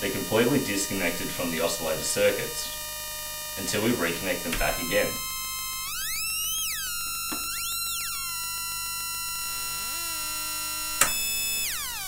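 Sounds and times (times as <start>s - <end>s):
buzzy oscillator chord: 0.0s - 12.0s.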